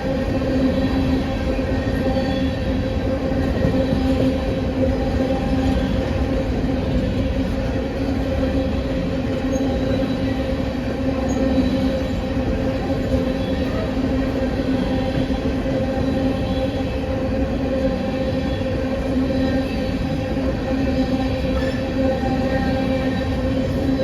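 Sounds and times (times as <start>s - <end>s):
train running: 0.0s - 24.0s.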